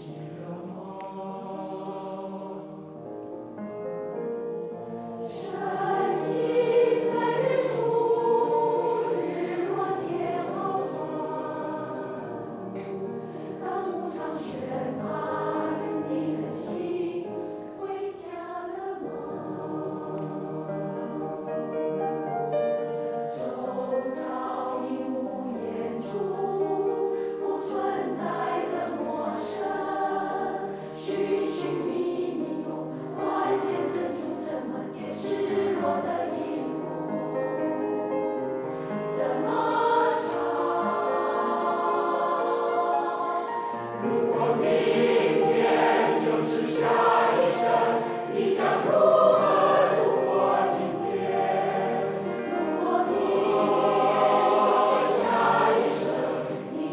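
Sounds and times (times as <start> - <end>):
choir singing: 0.0 - 56.9.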